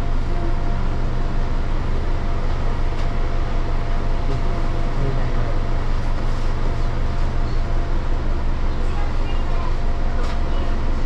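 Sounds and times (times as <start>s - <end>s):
electric train low hum: 0.0s - 11.0s
thin steady whine: 0.0s - 11.0s.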